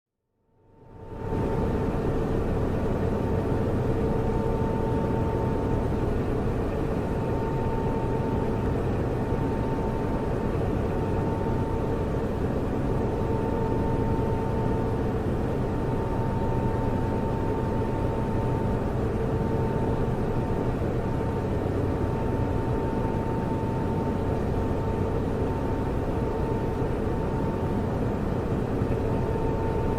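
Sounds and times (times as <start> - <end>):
constant hum: 0.3 - 29.9
cooling fans whirring: 0.4 - 29.9
faint whining tones: 0.4 - 29.9.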